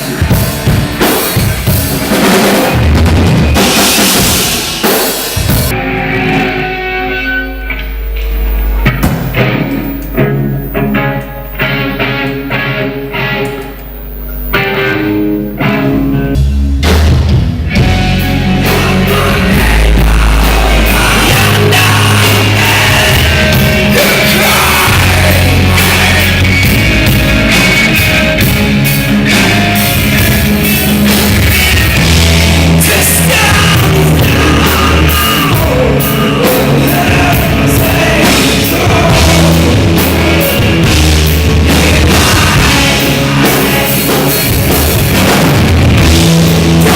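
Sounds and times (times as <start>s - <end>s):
heavy rock music: 0.0s - 46.9s.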